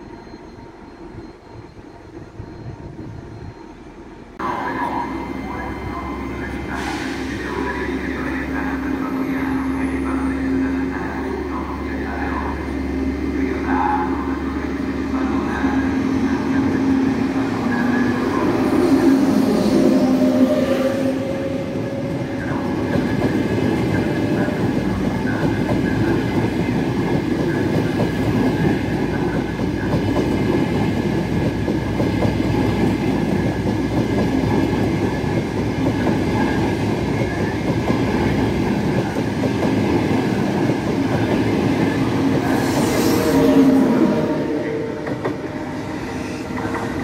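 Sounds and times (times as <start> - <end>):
train wheels rumbling on rails: 6.0 - 47.0.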